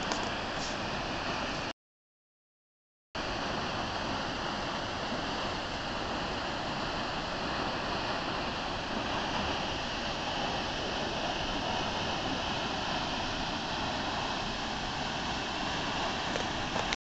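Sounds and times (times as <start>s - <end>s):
waterfall rushing: 3.2s - 17.0s.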